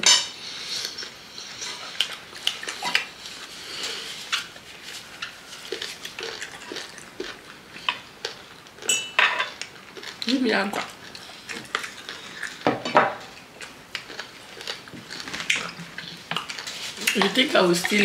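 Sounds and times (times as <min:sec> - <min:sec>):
people chewing: 0:00.3 - 0:18.0.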